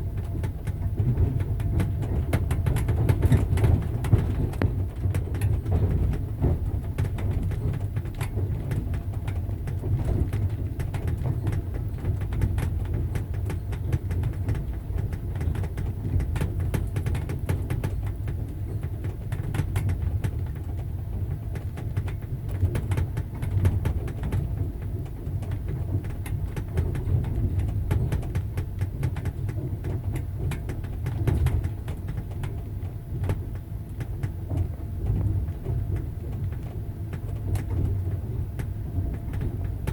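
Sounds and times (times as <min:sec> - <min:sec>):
train rumbling on rails: 0:00.0 - 0:39.9
train wheels clicking and knocking: 0:00.0 - 0:39.9.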